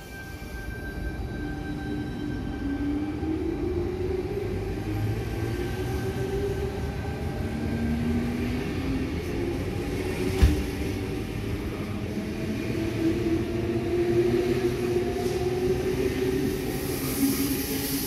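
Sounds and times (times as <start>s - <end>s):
electric train rumbling past: 0.0s - 18.0s.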